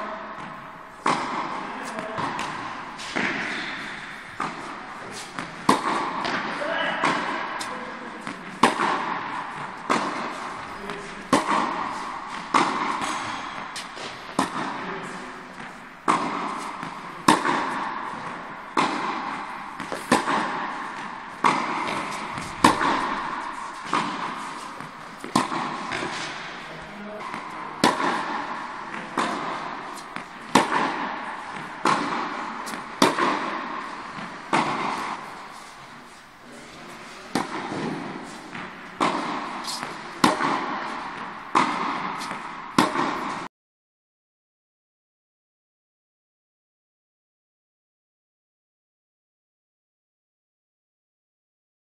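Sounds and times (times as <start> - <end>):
tennis balls hit by rackets: 0.0 - 43.5.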